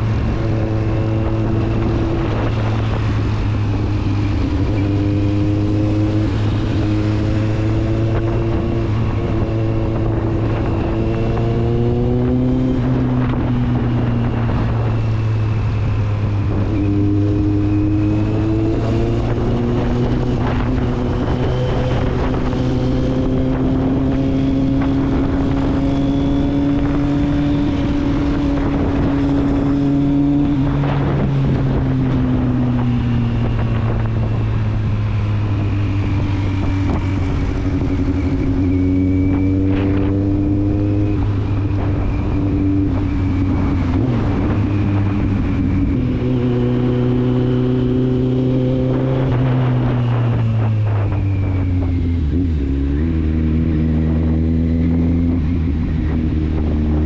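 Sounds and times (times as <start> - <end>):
motorcycle engine through exhaust: 0.0 - 57.0.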